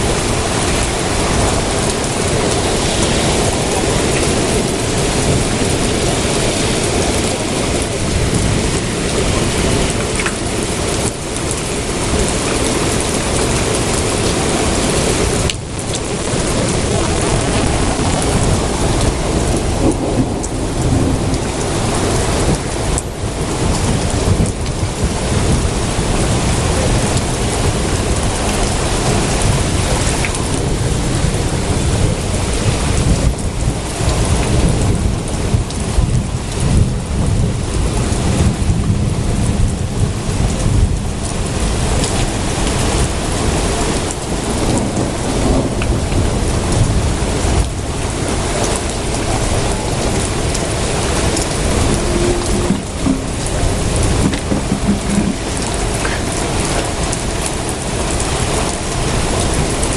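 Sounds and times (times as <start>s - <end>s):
heavy rain pouring: 0.0s - 59.9s
thunder rumbling: 0.0s - 59.9s.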